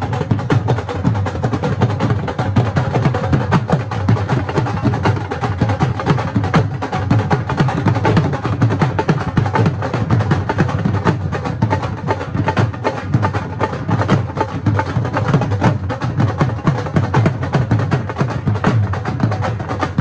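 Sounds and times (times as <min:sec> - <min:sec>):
dhol drums beaten with sticks: 0:00.0 - 0:20.0.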